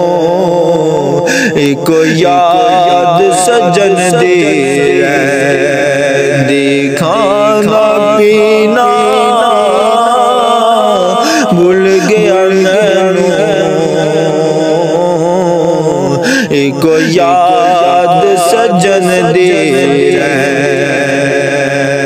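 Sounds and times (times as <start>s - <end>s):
man singing: 0.0s - 22.0s.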